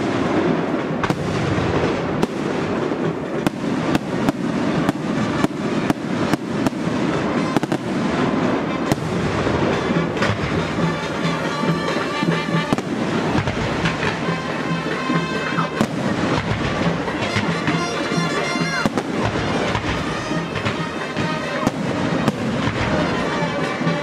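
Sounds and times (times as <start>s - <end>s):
fireworks rumbling and banging: 0.0s - 24.0s
music: 0.0s - 24.0s.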